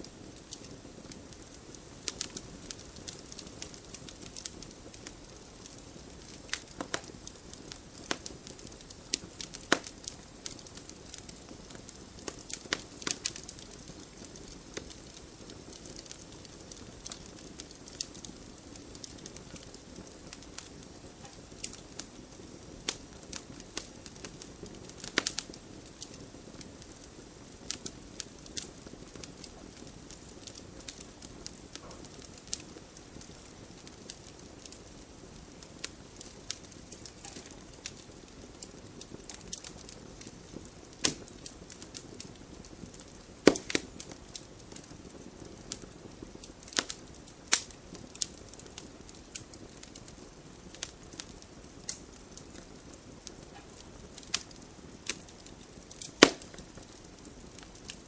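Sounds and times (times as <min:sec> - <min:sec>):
fire crackling and snapping: 0:00.0 - 0:58.0
low rush of flames: 0:00.0 - 0:58.0.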